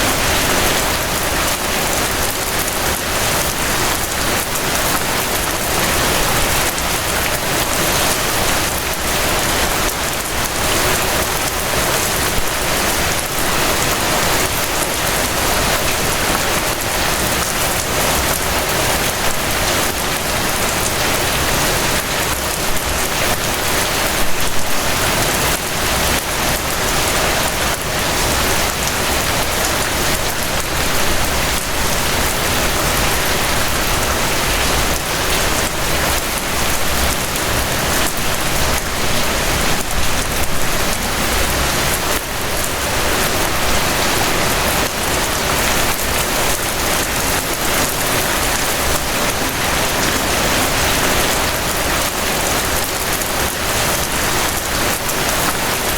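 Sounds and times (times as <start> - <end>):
rain falling on a surface: 0.0 - 55.9.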